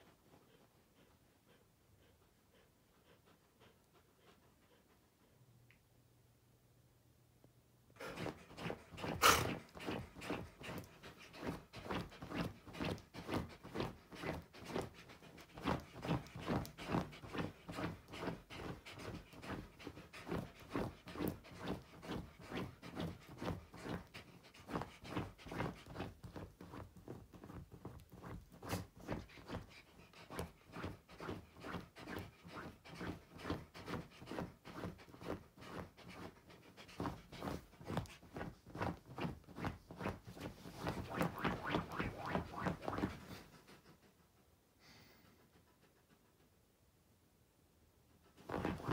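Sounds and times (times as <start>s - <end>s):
dog panting: 0.0s - 5.7s, 8.0s - 46.9s, 48.0s - 48.9s.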